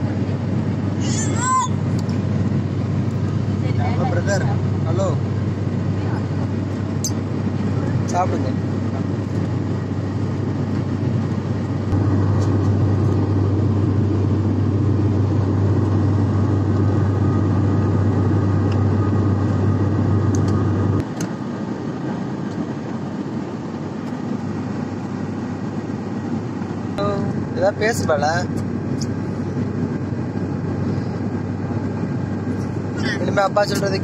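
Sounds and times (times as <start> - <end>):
airliner cabin engine drone: 0.0 - 34.0.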